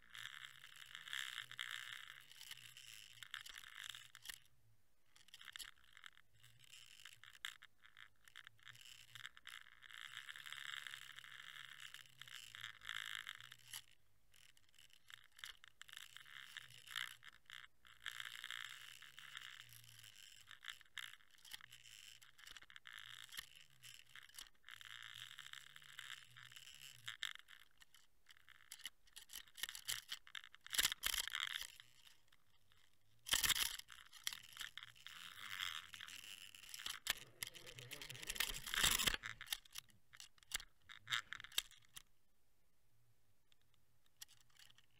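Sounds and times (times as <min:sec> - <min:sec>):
small clicks and rattles: 0:00.0 - 0:04.5, 0:05.1 - 0:42.1, 0:43.5 - 0:44.9.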